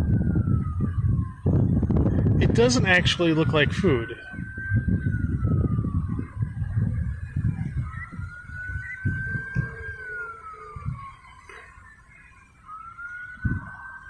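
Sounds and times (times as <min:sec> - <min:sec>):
low rumbling on microphone: 0:00.0 - 0:11.7, 0:12.6 - 0:14.0
siren wailing: 0:00.0 - 0:14.0.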